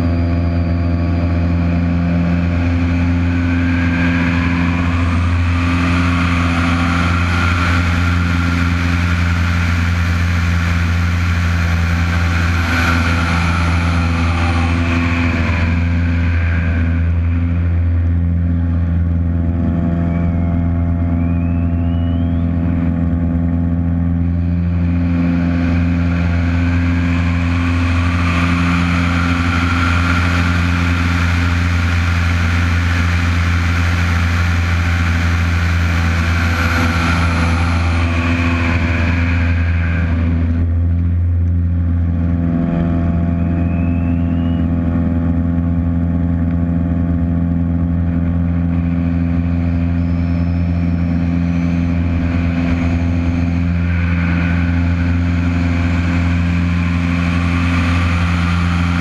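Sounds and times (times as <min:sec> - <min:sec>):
plane engine and propeller running: 0:00.0 - 0:59.0.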